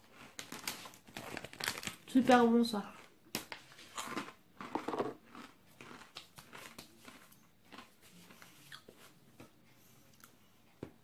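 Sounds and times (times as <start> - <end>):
person chewing crunchy cracker: 0.0 - 9.1.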